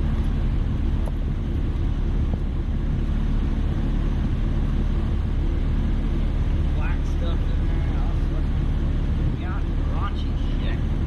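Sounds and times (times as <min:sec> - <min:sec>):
hvac unit rumbling: 0:00.0 - 0:11.0.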